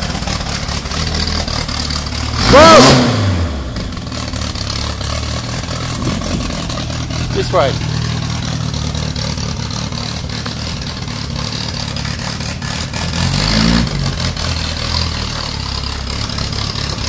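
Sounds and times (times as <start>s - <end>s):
car engine running: 0.0s - 17.0s
engine revving: 0.0s - 17.0s.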